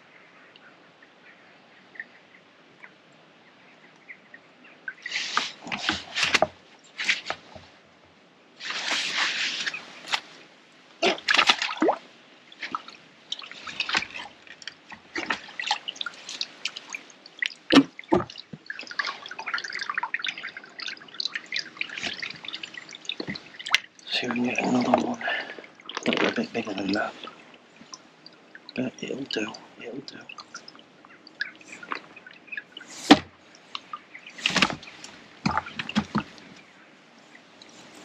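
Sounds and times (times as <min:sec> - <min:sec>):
water dripping and sloshing: 0:03.8 - 0:07.8, 0:08.6 - 0:38.0.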